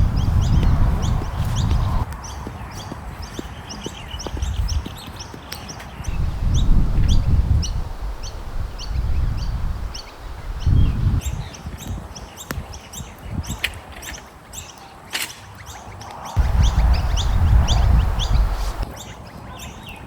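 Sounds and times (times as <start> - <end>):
wind rumbling on microphone: 0.0 - 14.3, 15.8 - 19.4
small bird chirping: 0.0 - 14.8, 16.4 - 20.0.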